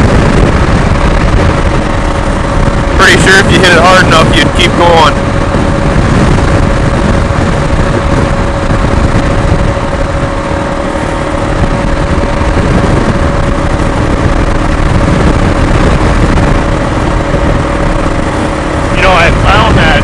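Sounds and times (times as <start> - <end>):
motorcycle engine hum: 0.0 - 20.0
wind rush over microphone: 0.0 - 20.0.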